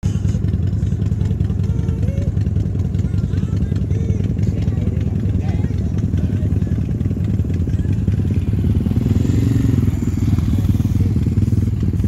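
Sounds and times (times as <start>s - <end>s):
motorcycle engine at high revs: 0.1s - 12.0s.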